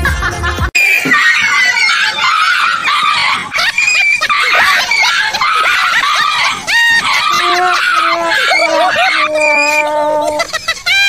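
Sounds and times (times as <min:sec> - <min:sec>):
dog yelping: 0:01.1 - 0:10.9.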